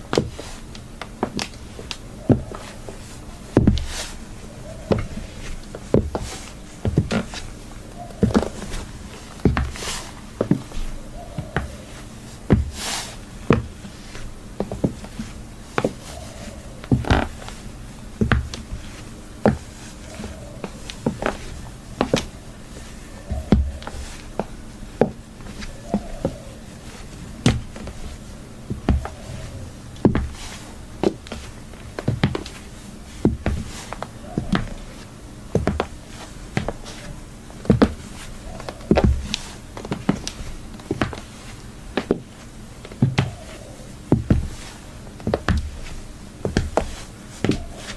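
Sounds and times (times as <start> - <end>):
low room hum: 0.0 - 47.9
high heels clicking on hard floor: 1.0 - 3.0, 3.6 - 4.0, 4.8 - 12.8, 13.5 - 16.2, 18.2 - 26.5, 27.4 - 34.9, 35.5 - 37.0, 37.6 - 38.0, 38.6 - 41.4, 42.0 - 47.9.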